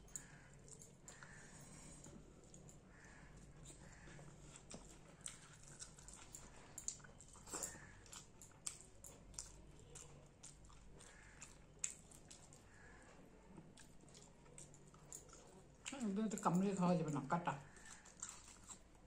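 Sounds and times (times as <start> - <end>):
chewing and mouth smacks: 0.0 - 16.6, 17.7 - 19.0.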